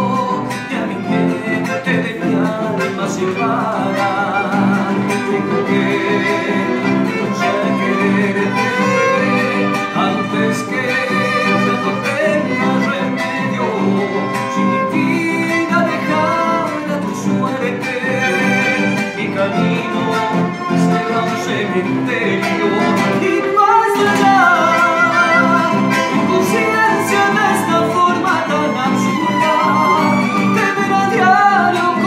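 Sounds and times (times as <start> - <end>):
accordion: 0.0 - 32.0
guitar chords: 0.0 - 32.0
violins playing melody: 0.7 - 32.0.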